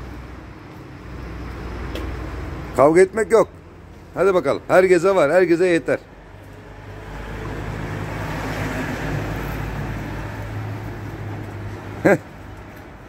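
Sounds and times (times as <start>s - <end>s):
vehicle passing: 0.0s - 13.0s.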